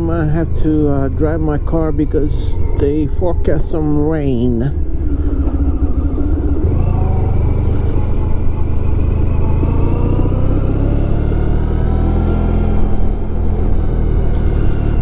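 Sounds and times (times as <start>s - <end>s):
motorcycle engine accelerating: 0.0s - 15.0s
wind and road noise: 0.0s - 15.0s.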